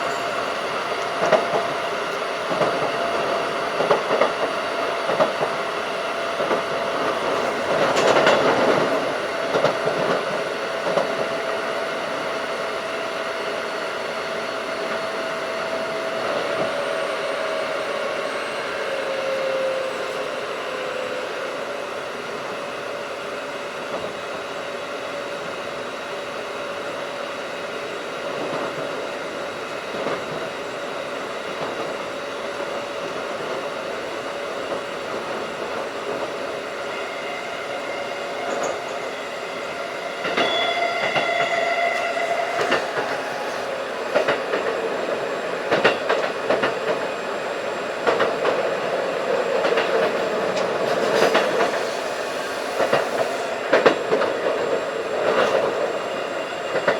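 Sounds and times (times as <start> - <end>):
electric train running hum: 0.0 - 56.9.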